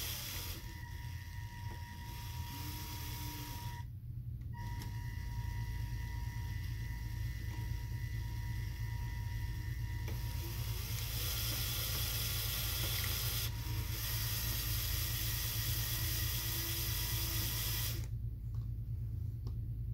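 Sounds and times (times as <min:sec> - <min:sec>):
electric motors and gears whirring: 0:00.0 - 0:18.3.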